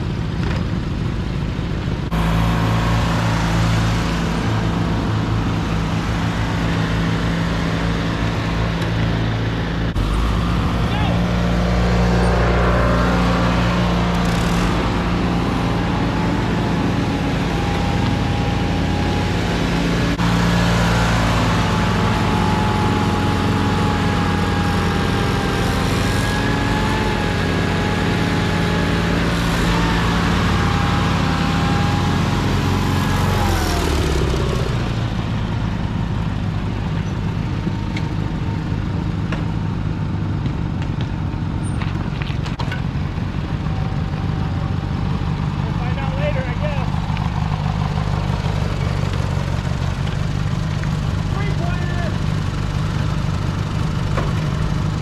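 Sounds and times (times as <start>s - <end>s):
riding lawn tractor engines: 0.0s - 55.0s.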